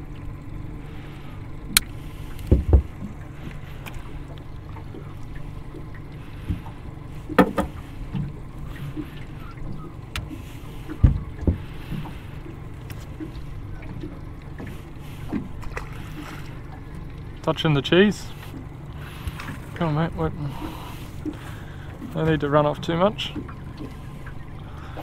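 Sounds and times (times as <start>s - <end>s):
water: 0.0s - 25.0s
wind: 0.0s - 25.0s.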